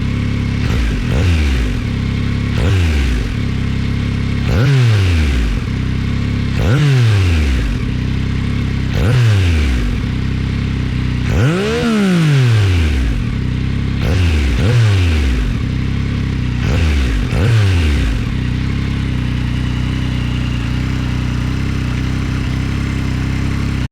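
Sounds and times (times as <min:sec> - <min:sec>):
motorcycle engine idling: 0:00.0 - 0:23.9
motorcycle engine revving: 0:00.0 - 0:23.9.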